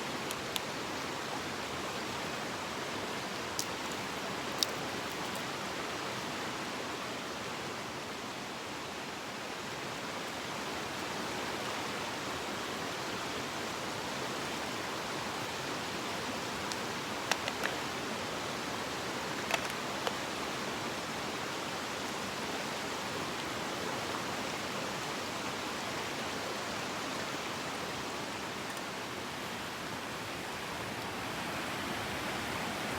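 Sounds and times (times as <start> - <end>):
mountain stream flowing: 0.0 - 32.9.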